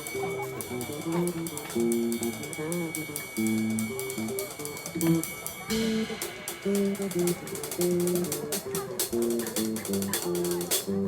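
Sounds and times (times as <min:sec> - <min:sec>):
drums and cymbal hits: 0:00.0 - 0:11.0.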